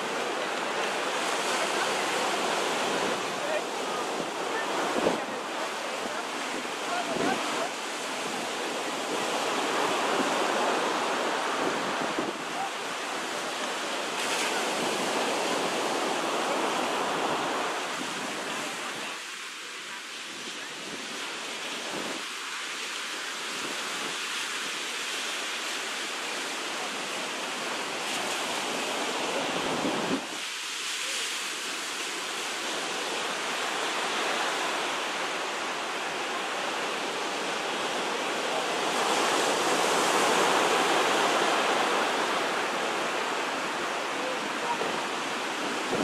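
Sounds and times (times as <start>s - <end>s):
ocean surf breaking on beach: 0.0s - 46.0s.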